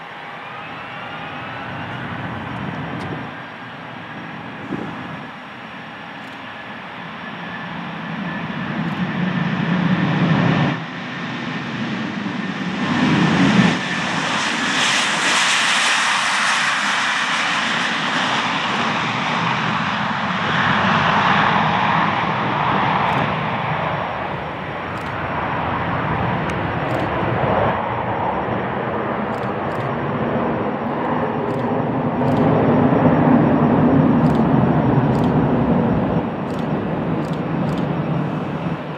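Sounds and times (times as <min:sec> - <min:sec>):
jet engines at take-off thrust: 0:00.0 - 0:38.9.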